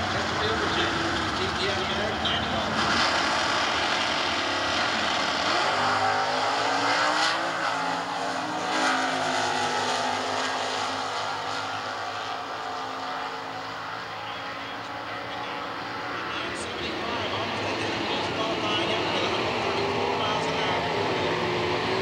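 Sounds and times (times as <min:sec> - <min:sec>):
drag racing cars accelerating: 0:00.0 - 0:22.0.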